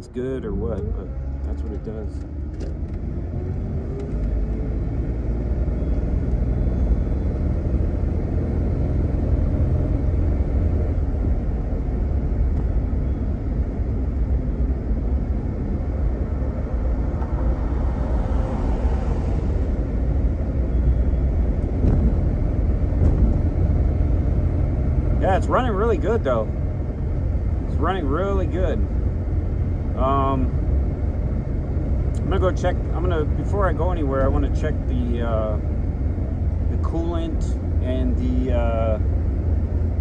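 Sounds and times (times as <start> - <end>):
car engine accelerating: 0.0 - 40.0
tyre road noise: 0.0 - 40.0.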